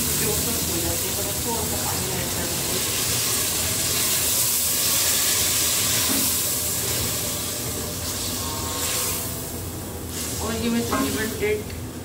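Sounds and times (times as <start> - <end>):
water hissing and steaming: 0.0 - 11.6
food sizzling in hot oil: 0.0 - 11.7.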